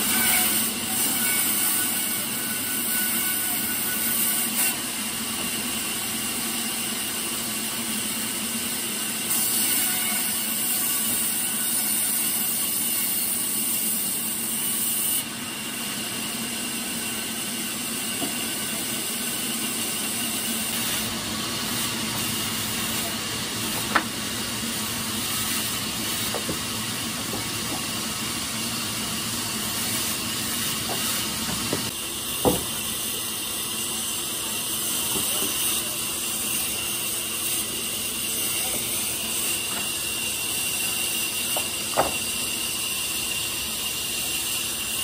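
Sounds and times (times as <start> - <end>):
sawmill machinery hissing: 0.0 - 45.0.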